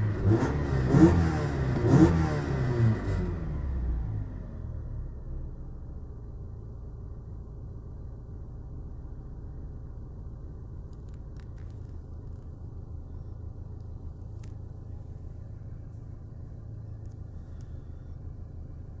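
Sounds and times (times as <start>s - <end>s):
car engine idling: 2.6s - 19.0s.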